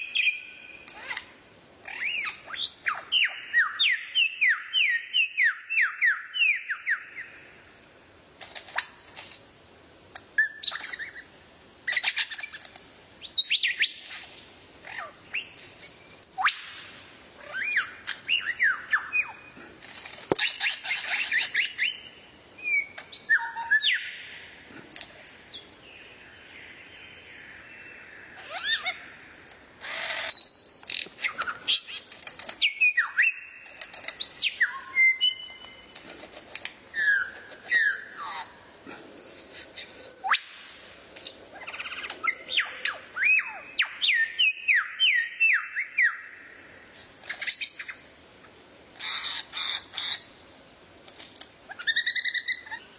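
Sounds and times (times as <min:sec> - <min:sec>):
songbird singing: 0:00.0 - 0:07.9, 0:08.6 - 0:50.5, 0:51.2 - 0:52.9.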